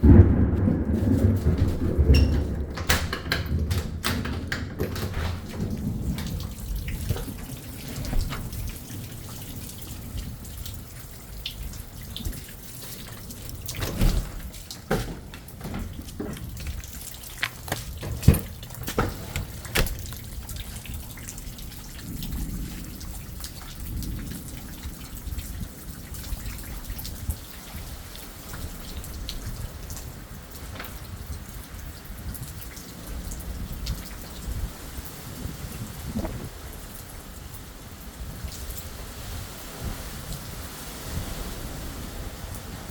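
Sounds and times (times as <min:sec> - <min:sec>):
rain falling: 0:00.0 - 0:42.9
water dripping and splashing: 0:00.0 - 0:42.9.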